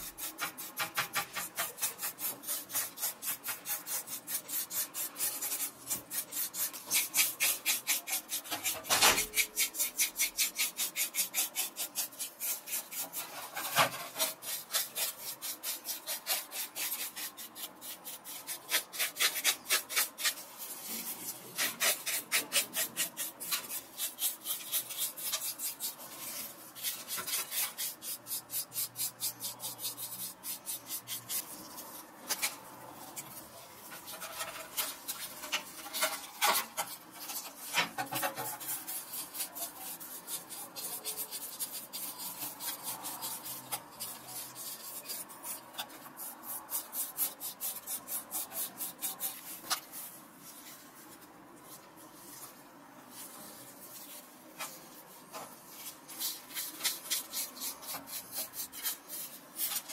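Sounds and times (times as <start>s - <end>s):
toothbrush scrubbing camera: 0.0s - 50.5s, 53.3s - 59.9s.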